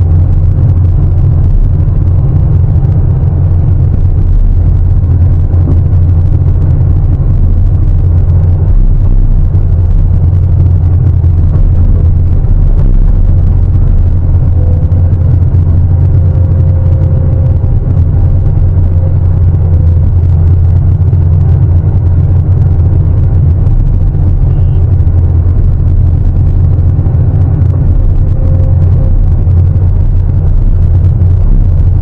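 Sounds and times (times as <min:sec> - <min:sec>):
excavator diesel engine drone: 0:00.0 - 0:32.0.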